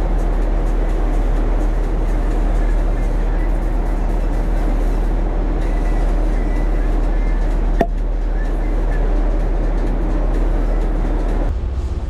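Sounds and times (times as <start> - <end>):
water noise: 0.0 - 11.4
boat engine drone: 0.0 - 12.0
wind: 0.0 - 12.0.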